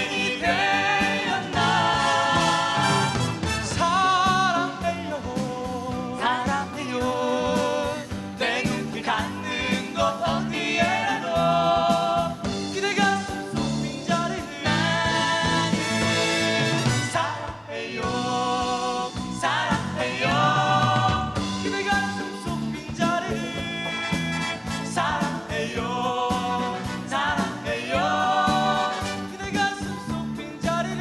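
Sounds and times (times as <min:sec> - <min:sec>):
acoustic guitar: 0:00.0 - 0:31.0
people singing pop ballad in harmony: 0:00.0 - 0:31.0.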